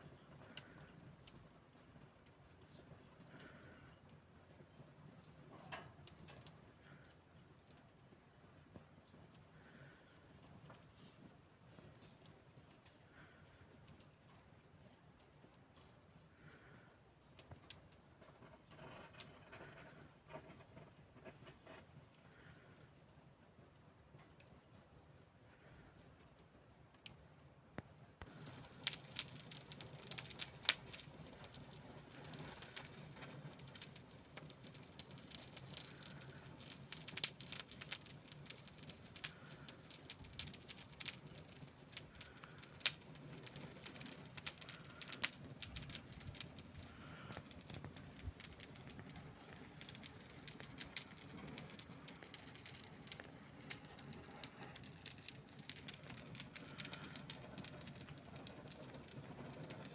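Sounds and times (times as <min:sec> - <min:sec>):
wood fire crackling and popping: 0:00.0 - 0:14.4, 0:15.2 - 0:22.8, 0:27.8 - 0:59.9
soft steady hiss: 0:00.0 - 0:59.9.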